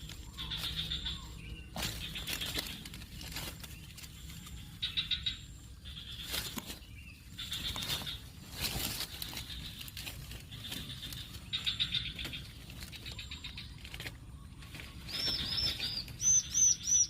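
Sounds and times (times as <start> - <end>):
bird chick buzzy calls: 0.0 - 17.0.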